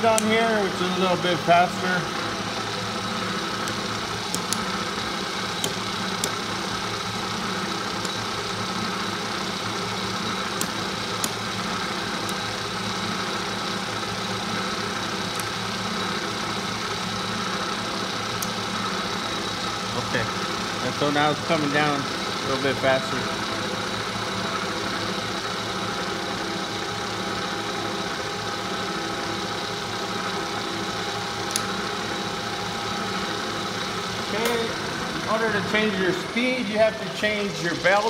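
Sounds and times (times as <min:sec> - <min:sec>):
milling machine motor humming: 0:00.0 - 0:38.0.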